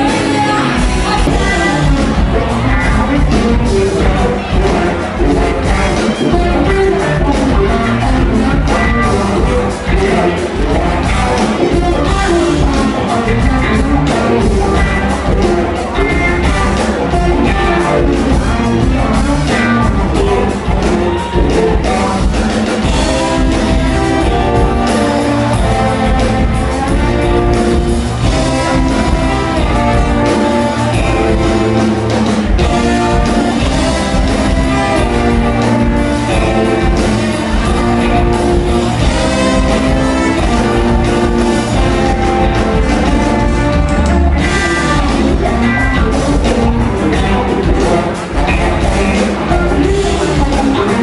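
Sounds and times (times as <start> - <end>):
brass band playing: 0.0 - 51.0
drum kit: 0.0 - 51.0
electric guitar: 0.0 - 51.0.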